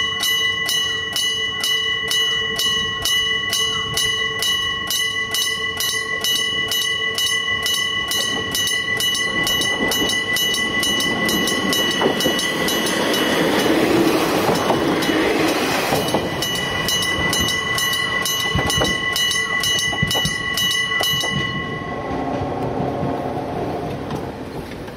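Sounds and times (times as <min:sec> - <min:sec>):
level crossing bell striking: 0:00.0 - 0:22.6
diesel railcar passing: 0:00.0 - 0:24.9.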